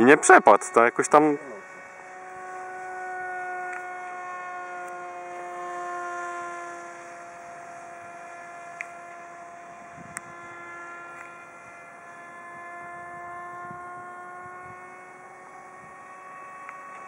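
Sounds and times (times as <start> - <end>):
model plane motor whining: 0.0 - 17.0.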